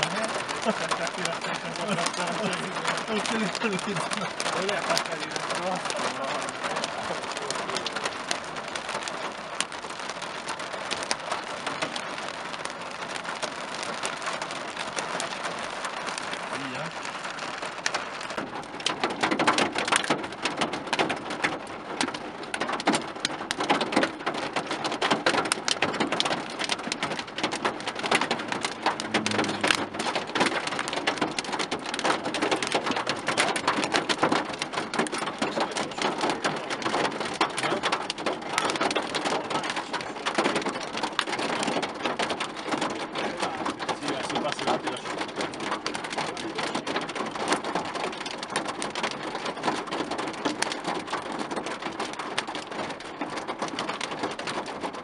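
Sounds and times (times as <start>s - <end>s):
hail hitting car roof: 0.0s - 55.0s.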